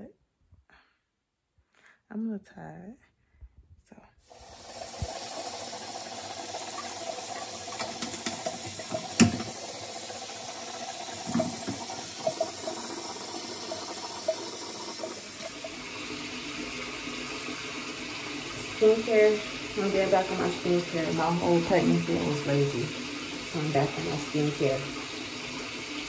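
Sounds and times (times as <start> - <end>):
sink tap running: 4.3 - 26.0.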